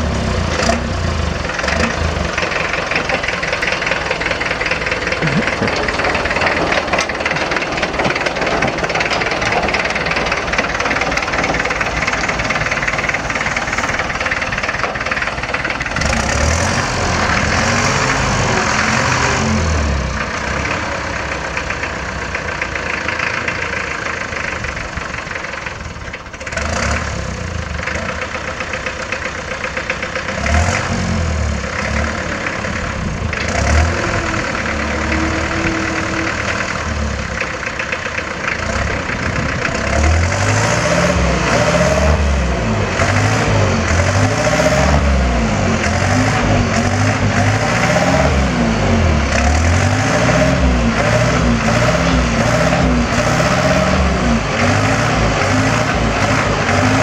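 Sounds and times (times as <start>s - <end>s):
tractor diesel engine revving: 0.0s - 57.0s.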